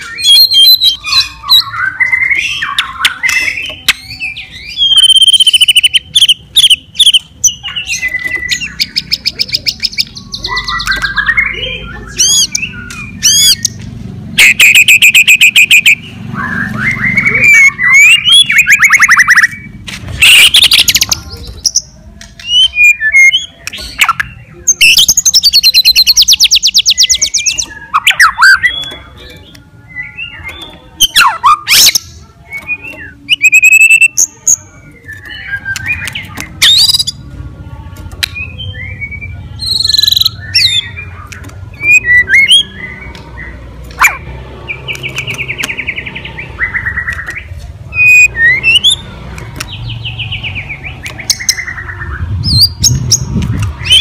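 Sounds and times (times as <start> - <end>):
songbird singing whistles and trills: 0.0 - 13.8, 14.4 - 37.2, 38.2 - 44.2, 44.8 - 54.0.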